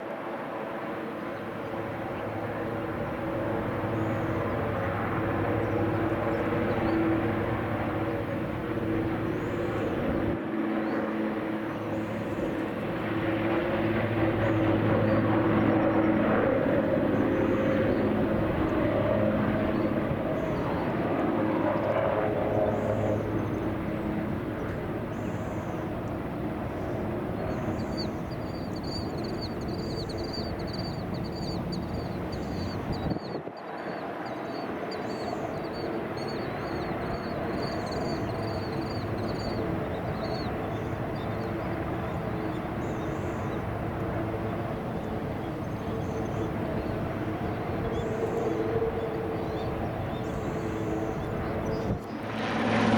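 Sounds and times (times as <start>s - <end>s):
helicopter engines and rotor: 0.0s - 52.9s.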